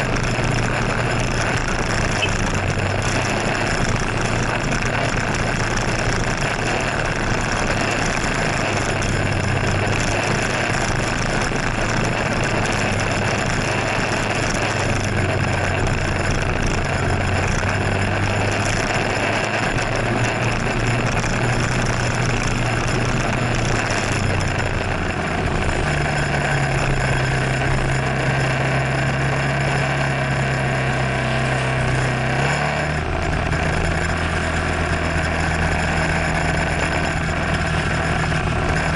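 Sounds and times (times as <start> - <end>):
rain noise: 0.0 - 38.9
scooter engine running: 0.0 - 38.9
wind noise on microphone: 0.0 - 38.9.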